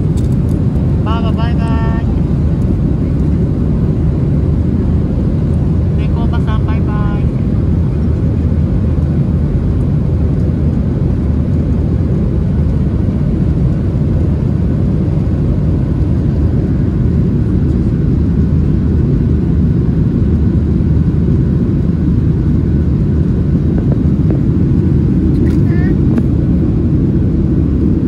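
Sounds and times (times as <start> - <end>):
airliner cabin engine drone: 0.0 - 28.0.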